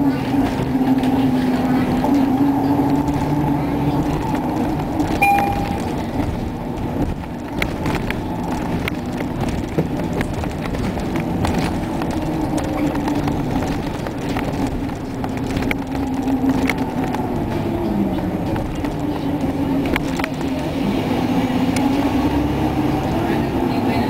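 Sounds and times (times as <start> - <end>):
bus engine drone: 0.0 - 24.0
interior rattles and clicks: 0.0 - 24.0
road noise: 0.0 - 24.0.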